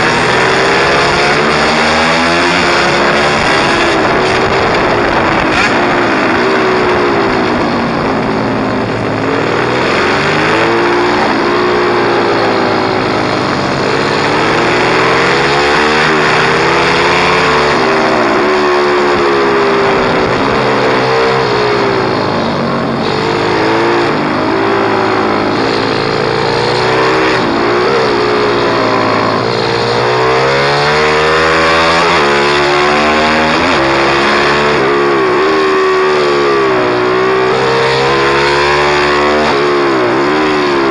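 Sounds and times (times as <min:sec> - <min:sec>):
small motorcycle engine revving: 0:00.0 - 0:40.9.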